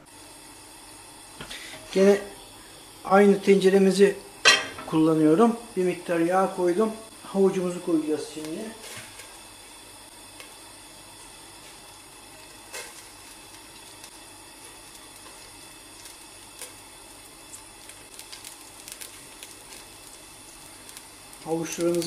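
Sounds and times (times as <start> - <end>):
carrot sizzling in hot oil: 0.0 - 22.0
faint steady hiss: 0.0 - 22.0.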